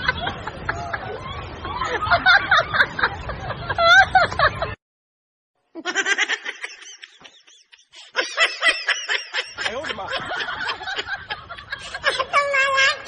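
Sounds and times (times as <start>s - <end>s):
crowd laughing and giggling: 0.0s - 4.8s, 5.8s - 13.0s.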